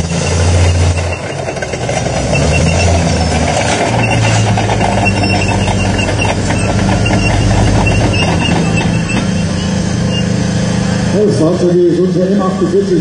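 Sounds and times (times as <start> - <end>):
steel tracks clattering: 0.0 - 11.0
vehicle engine running: 0.0 - 13.0.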